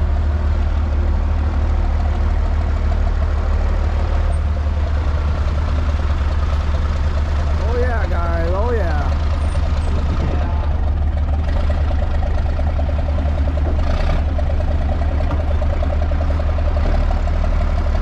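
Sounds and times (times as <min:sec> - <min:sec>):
road noise: 0:00.0 - 0:18.0
truck engine running: 0:00.0 - 0:18.0.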